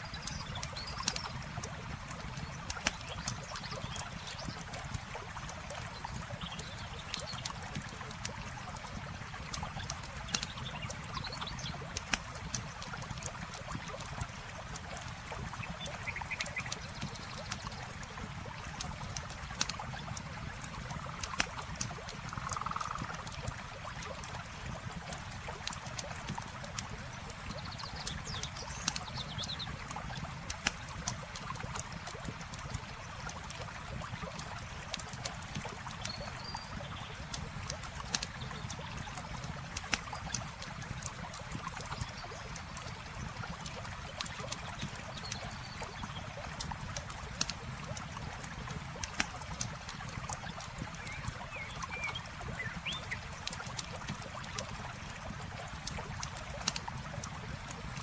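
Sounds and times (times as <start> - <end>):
flowing water: 0.0 - 58.0
campfire crackling and popping: 0.2 - 58.0.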